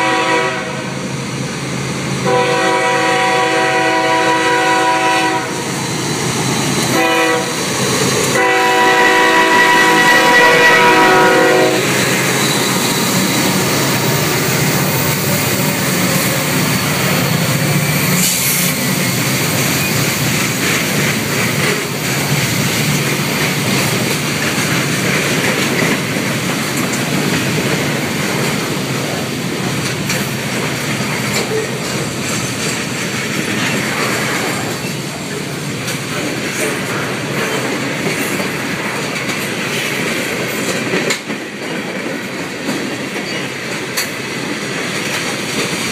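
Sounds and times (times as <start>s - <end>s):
train wheels clattering over rails: 2.2s - 45.9s.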